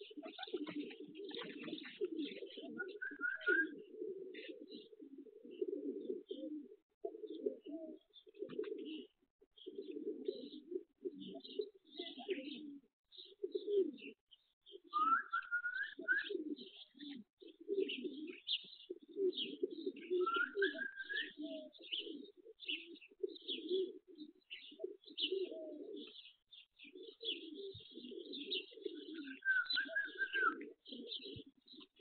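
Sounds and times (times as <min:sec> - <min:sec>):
pigeons cooing: 0:00.0 - 0:32.0
small birds chirping: 0:00.0 - 0:32.0.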